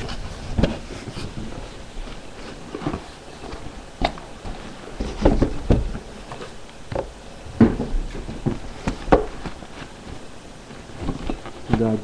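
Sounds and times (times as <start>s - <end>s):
cardboard box knocks and bumps: 0.4s - 1.6s, 2.6s - 12.0s.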